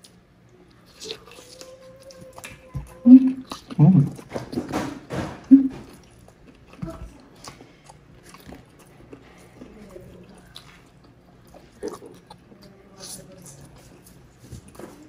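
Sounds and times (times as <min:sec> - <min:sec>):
chewing and lip smacks: 0:00.0 - 0:04.8, 0:05.5 - 0:15.0.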